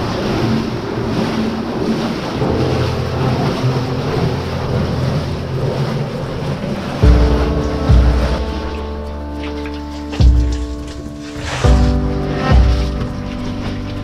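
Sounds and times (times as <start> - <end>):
boots splashing through water: 0.0 - 14.0.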